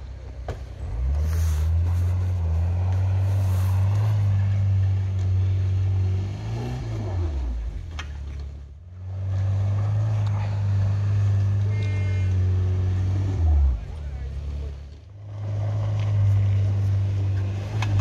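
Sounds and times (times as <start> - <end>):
suv engine revving: 0.0 - 18.0.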